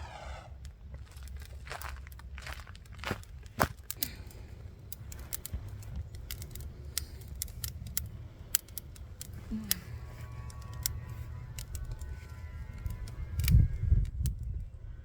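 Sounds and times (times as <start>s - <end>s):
low steady rumble: 0.0s - 15.0s
sharp clicks and snaps: 0.6s - 14.7s.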